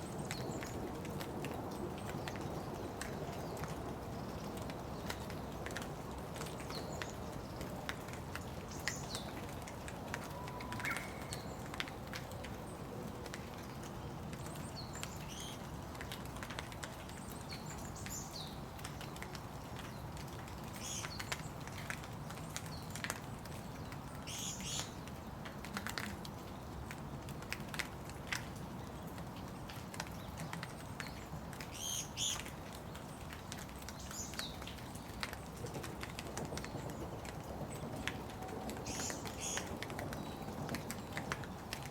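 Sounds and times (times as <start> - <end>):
sharp water drips: 0.0 - 41.9
steady rain: 0.0 - 41.9.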